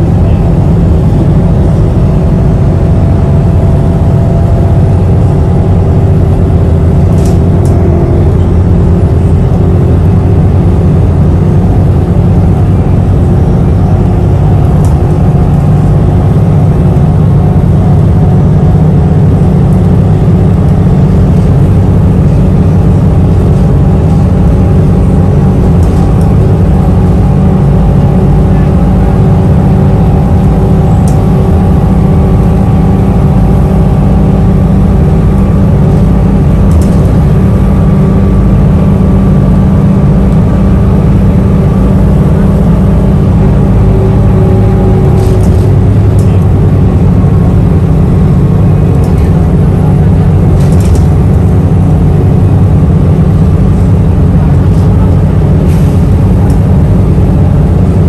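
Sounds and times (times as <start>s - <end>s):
bus engine and road rumble: 0.0s - 58.0s
steady hum: 0.0s - 58.0s.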